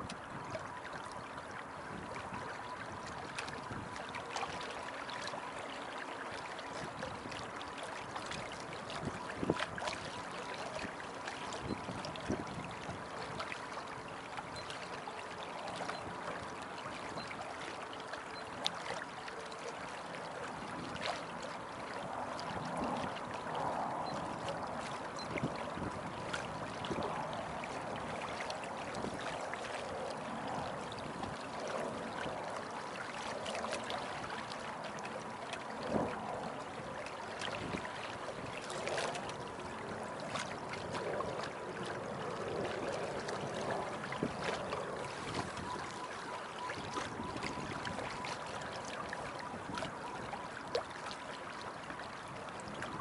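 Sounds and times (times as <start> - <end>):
water rushing along a hull: 0.0 - 53.0.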